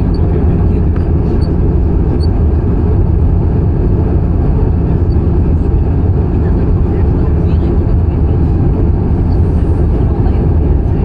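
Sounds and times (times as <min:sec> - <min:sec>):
aircraft engine noise: 0:00.0 - 0:11.0
airflow noise in cabin: 0:00.0 - 0:11.0.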